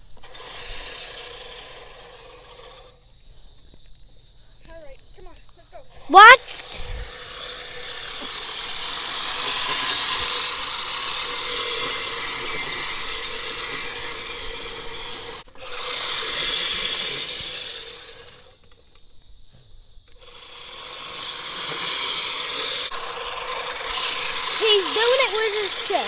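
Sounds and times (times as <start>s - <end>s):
reel mower blades whirring: 0.0s - 3.2s, 5.9s - 19.0s, 20.1s - 26.0s.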